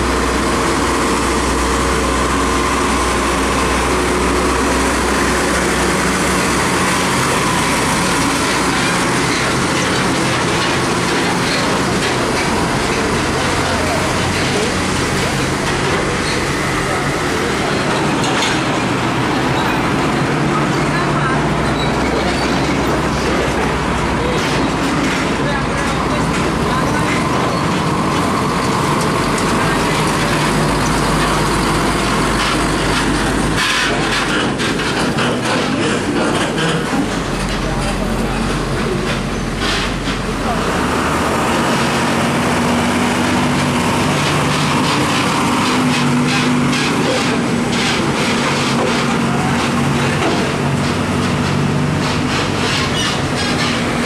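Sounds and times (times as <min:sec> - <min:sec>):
truck driving slowly past: 0:00.0 - 0:54.0.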